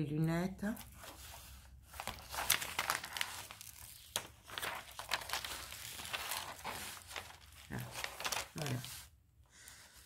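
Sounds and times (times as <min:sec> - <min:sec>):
film peeling with crackling: 0:00.8 - 0:09.1.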